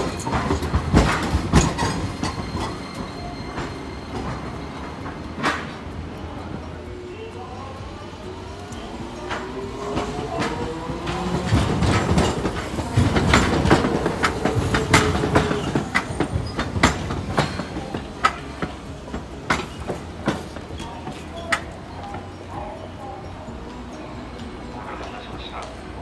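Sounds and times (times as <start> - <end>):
tram wheels clacking over points: 0.0 - 26.0.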